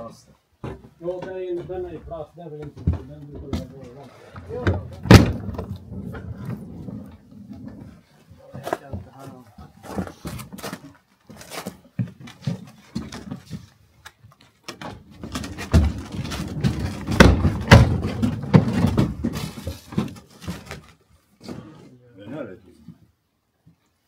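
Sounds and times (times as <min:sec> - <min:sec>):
thumps and scraping: 0:00.6 - 0:13.8, 0:14.6 - 0:22.0.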